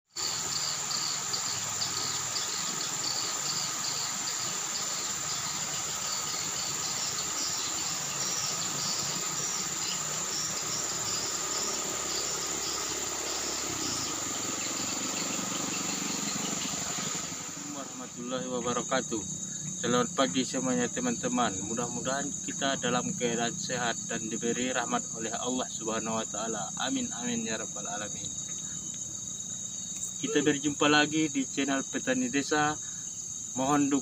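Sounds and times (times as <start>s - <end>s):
insects trilling and chirping: 0.1s - 34.0s.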